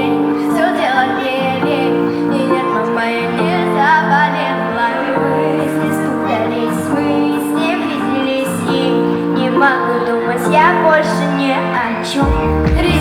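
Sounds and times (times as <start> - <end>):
pop song with sustained chords: 0.0 - 13.0
woman singing: 0.0 - 13.0.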